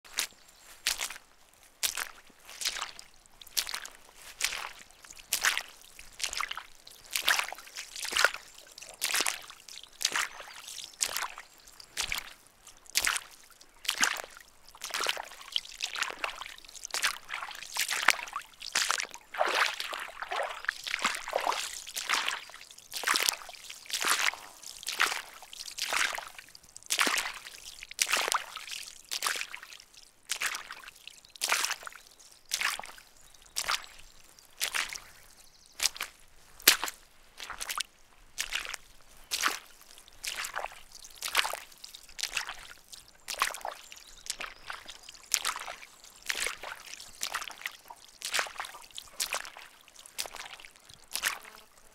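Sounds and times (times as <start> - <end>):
footsteps squelching in water: 0.0 - 51.9
water dribbling: 0.1 - 51.5.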